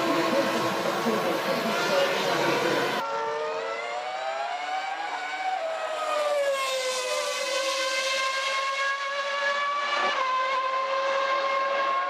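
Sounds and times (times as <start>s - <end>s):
racing car engine at high revs: 0.0s - 12.0s.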